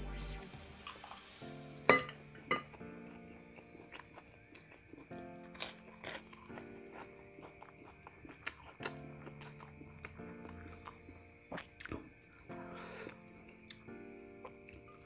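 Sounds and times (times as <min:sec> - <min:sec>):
soft background music: 0:00.0 - 0:15.0
crunching and chewing cracker: 0:02.4 - 0:15.0.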